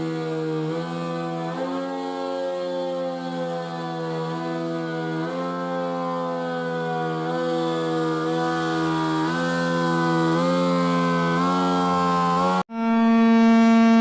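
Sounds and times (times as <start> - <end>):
large siren low steady tone: 0.0 - 14.0.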